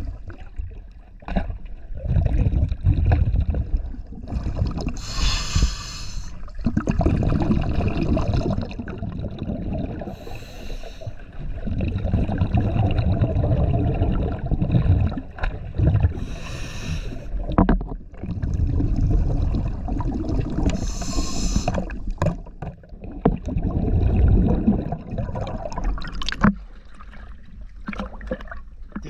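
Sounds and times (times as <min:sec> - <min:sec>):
low rumble of water: 0:00.0 - 0:29.0
bubbling exhalations underwater: 0:01.9 - 0:10.5, 0:11.2 - 0:26.4.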